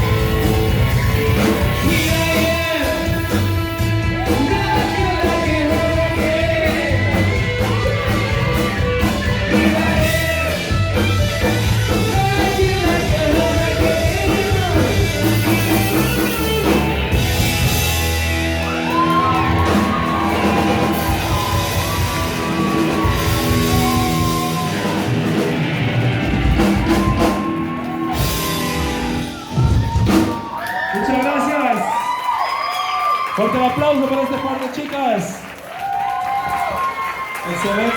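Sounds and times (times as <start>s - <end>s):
rock song with singing: 0.0s - 30.6s.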